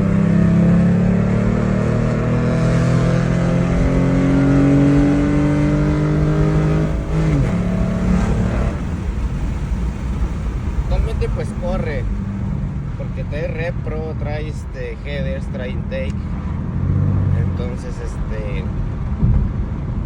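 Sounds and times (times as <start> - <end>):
car engine and exhaust under load: 0.0 - 20.0.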